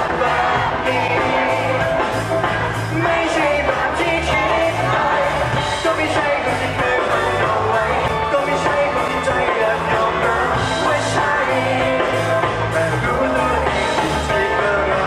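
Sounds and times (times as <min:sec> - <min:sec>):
electric bass: 0:00.0 - 0:15.0
rock-pop drum beat: 0:00.0 - 0:15.0
man singing into microphone: 0:02.9 - 0:15.0.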